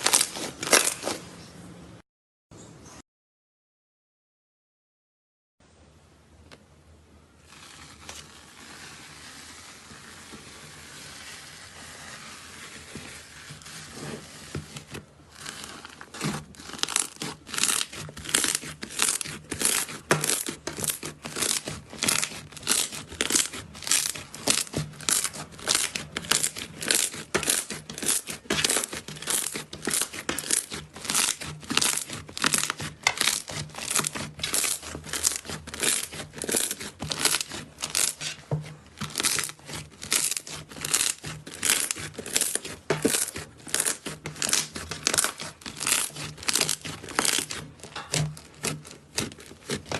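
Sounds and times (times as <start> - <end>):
slime squishing and crackling: 0.0 - 1.2, 7.4 - 49.9.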